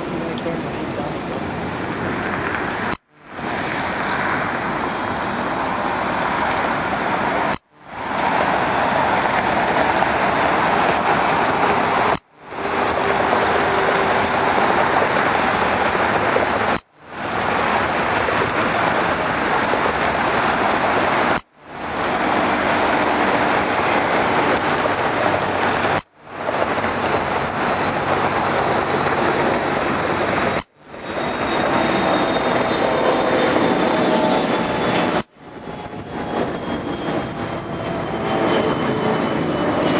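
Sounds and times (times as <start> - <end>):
jet engines roaring on takeoff: 0.0 - 39.9.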